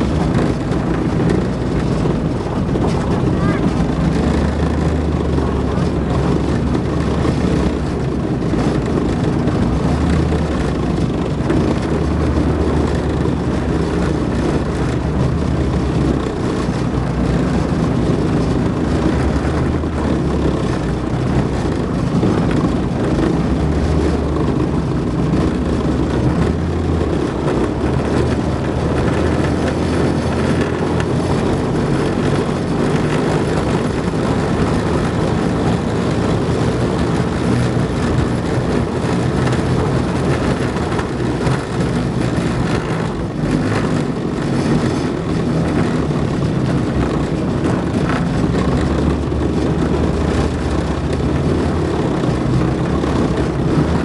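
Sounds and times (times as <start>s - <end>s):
tracked vehicle engine and running gear: 0.0s - 54.0s.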